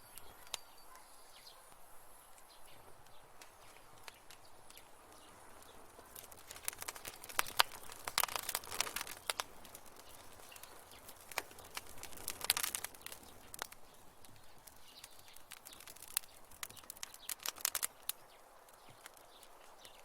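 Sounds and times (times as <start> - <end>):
faint fire hiss: 0.0 - 20.0
wood fire crackling: 1.6 - 20.0
fire popping and snapping: 1.8 - 20.0.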